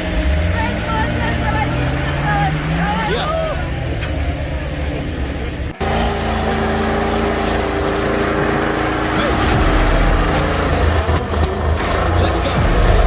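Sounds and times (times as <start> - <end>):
off-road engine rumbling under load: 0.0 - 13.0.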